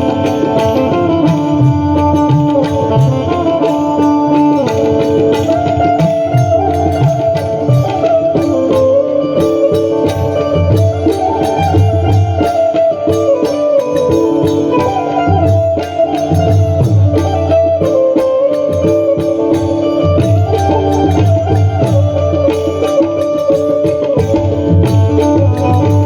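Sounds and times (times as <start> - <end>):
hand-drum beat: 0.0 - 26.0.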